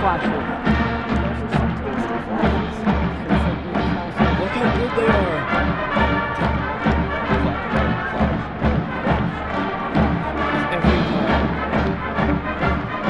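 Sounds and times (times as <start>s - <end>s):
brass chords: 0.0s - 13.0s
steady low drum beat: 0.0s - 13.0s.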